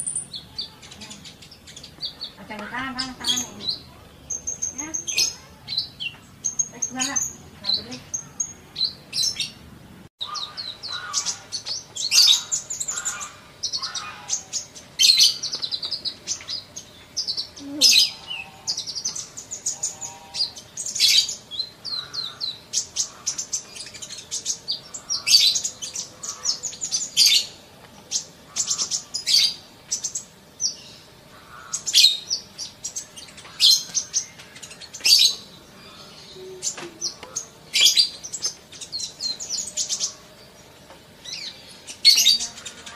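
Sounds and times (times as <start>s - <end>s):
sunbird chirps and trills: 0.0s - 42.9s.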